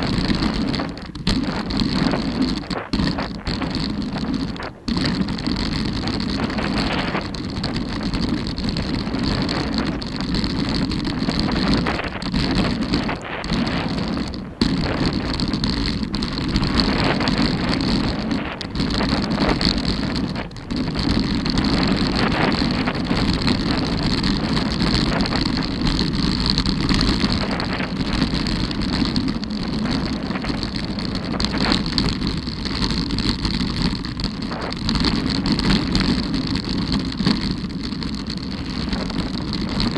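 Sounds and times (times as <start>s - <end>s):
tyres rumbling over loose stones: 0.0s - 39.9s
wind on microphone: 0.0s - 39.9s.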